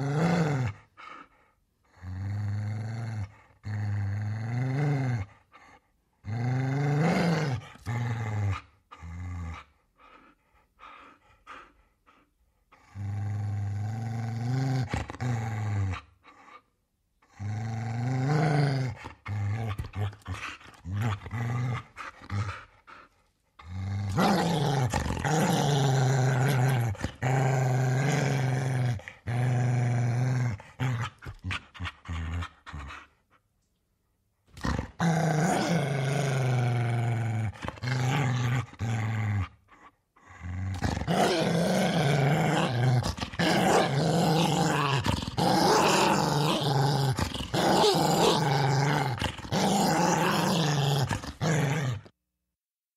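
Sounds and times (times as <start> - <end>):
large dog growling: 0.0 - 0.9, 1.8 - 16.6, 17.2 - 33.2, 34.5 - 52.1.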